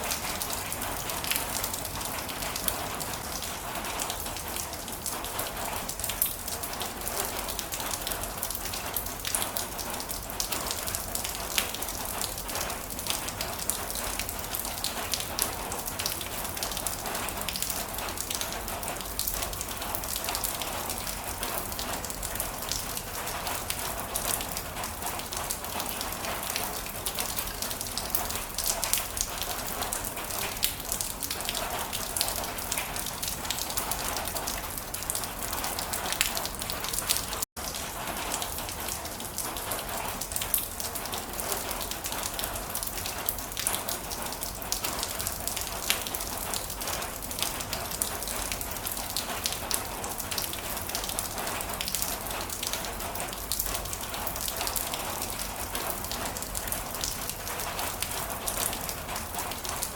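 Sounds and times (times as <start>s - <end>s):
heavy rain: 0.0s - 59.9s
raindrops pattering on a surface: 0.0s - 59.9s.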